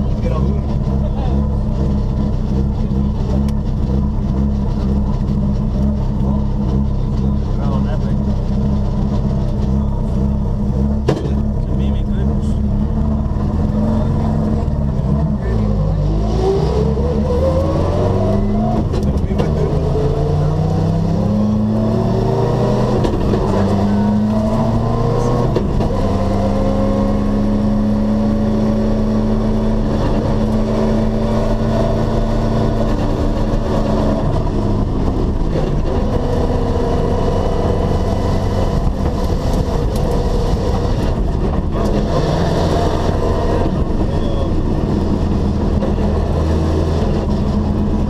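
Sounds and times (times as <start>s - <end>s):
rally car engine revving: 0.0s - 48.0s
road and tyre noise: 0.0s - 48.0s.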